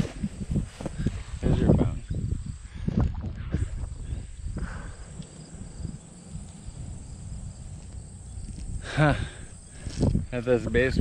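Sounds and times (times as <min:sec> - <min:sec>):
insects chirping faintly: 0:00.0 - 0:11.0
low rumble on microphone: 0:00.0 - 0:11.0.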